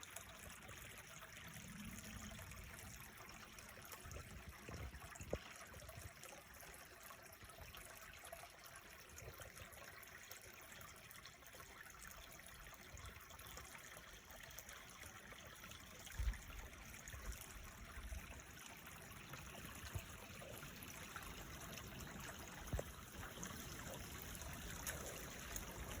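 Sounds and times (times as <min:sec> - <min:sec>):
creek water trickling over stones: 0:00.0 - 0:26.0.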